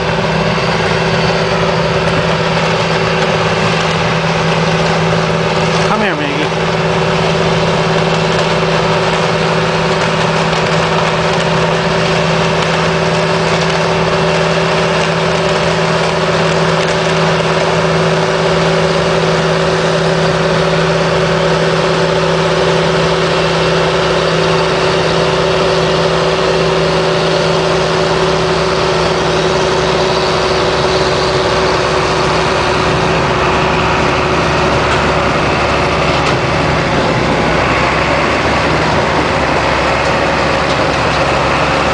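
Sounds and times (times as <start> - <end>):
constant humming tones: 0.0 - 41.9
harvesting machinery engine drone: 0.0 - 41.9.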